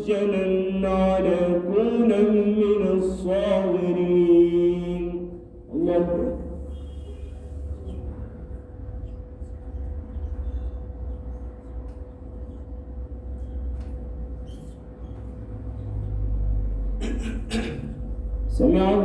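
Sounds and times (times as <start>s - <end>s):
faint constant hum: 0.0s - 19.0s.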